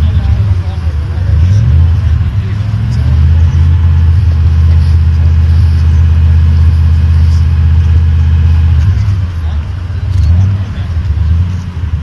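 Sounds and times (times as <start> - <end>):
engine droning at high revs: 0.0 - 12.0.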